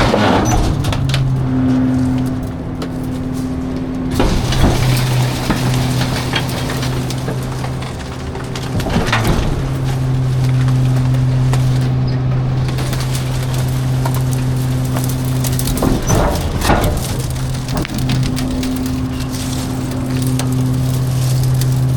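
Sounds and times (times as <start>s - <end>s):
garbage truck humming: 0.0s - 21.9s
refuse crunching and clattering: 0.0s - 21.9s.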